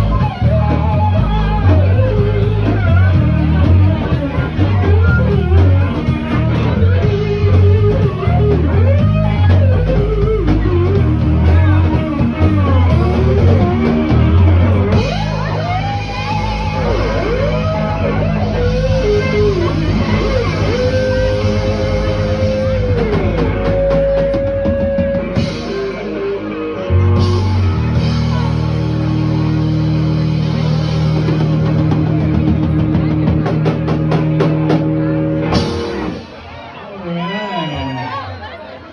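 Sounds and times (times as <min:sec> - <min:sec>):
drum and cymbal hits: 0:00.0 - 0:36.5
electric guitar lead notes: 0:00.0 - 0:38.9
live rock band playing: 0:00.0 - 0:38.9.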